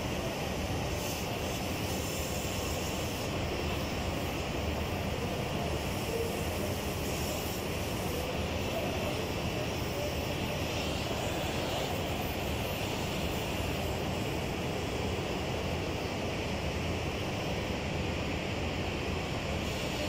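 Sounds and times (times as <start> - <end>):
cutting torch flame hissing: 0.0 - 20.0.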